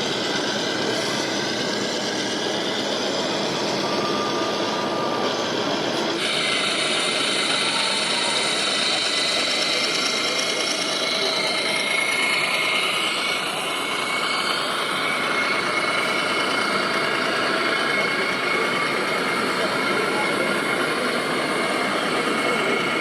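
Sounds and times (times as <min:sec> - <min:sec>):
small motors whirring: 0:00.0 - 0:23.0.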